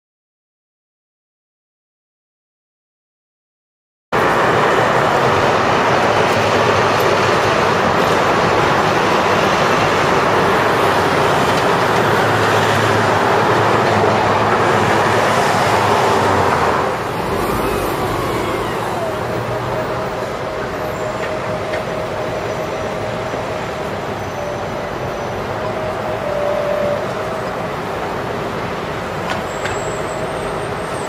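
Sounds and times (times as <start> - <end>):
vehicle ride noise: 4.2 - 31.0.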